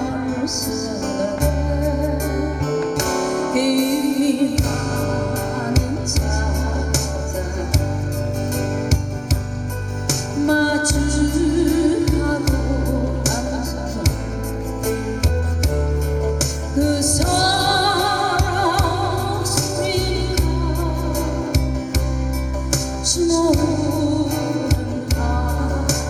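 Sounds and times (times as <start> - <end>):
slow ballad with band: 0.0 - 26.0.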